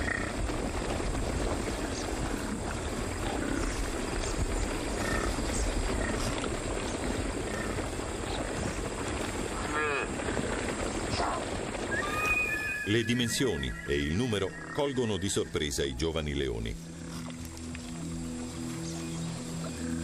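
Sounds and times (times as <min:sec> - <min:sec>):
hooves trampling dry ground: 0:00.0 - 0:20.0.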